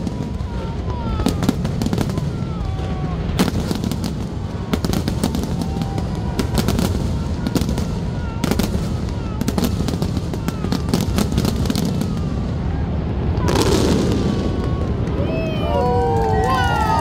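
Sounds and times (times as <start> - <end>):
fireworks cracks and bangs: 0.0 - 17.0.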